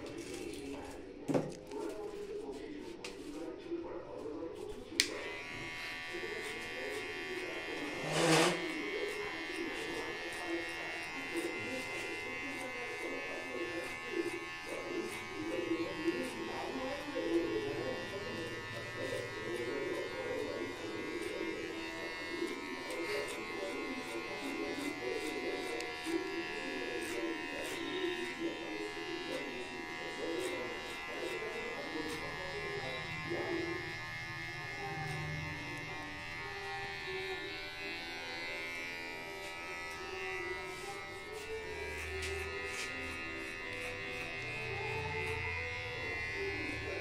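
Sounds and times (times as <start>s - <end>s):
electric hair clipper buzzing: 5.0s - 47.0s.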